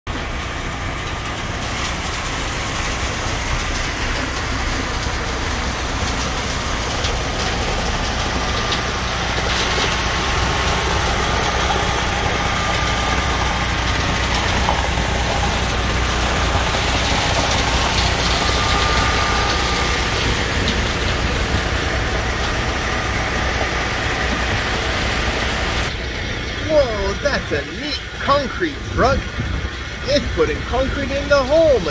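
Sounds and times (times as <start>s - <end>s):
concrete mixer truck engine rumble: 0.1s - 31.9s
concrete rushing down chute: 0.1s - 31.9s.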